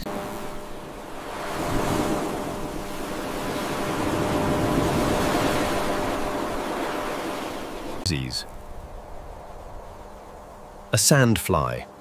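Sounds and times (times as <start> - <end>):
ocean wave washing in: 0.0 - 10.6
faint steady hum: 0.0 - 12.0.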